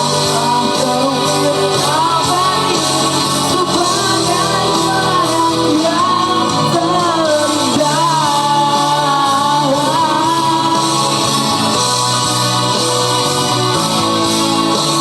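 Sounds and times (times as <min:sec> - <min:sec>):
instrumental accompaniment: 0:00.0 - 0:15.0
person singing pop song: 0:00.0 - 0:15.0.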